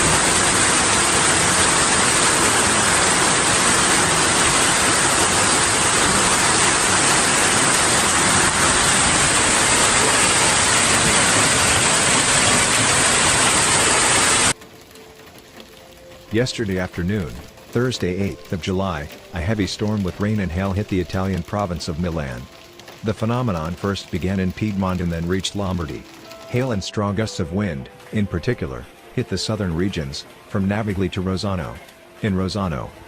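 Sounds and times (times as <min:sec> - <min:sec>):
heavy rain and hail: 0:00.0 - 0:27.4.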